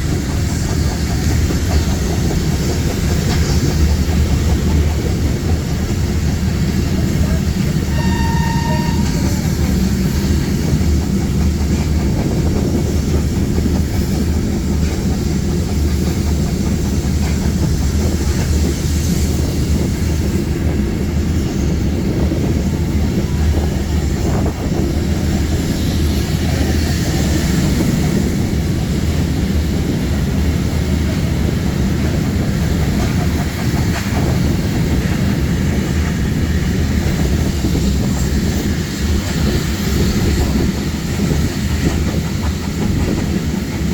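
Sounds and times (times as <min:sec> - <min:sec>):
train wheels on track: 0:00.0 - 0:43.9.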